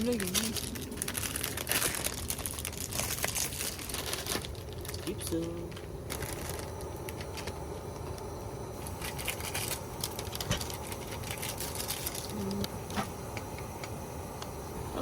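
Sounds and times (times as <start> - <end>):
camp stove rumbling: 0.0 - 15.0.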